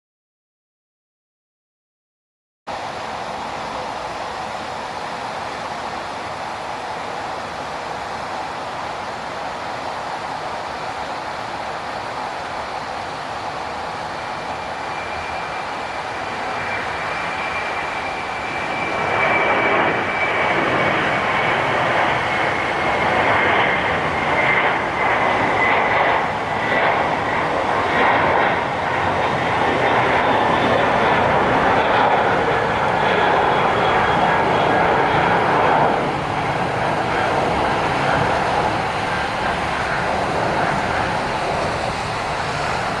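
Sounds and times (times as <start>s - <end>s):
high engine whine: 2.7s - 43.0s
jet engines roaring past: 2.7s - 43.0s.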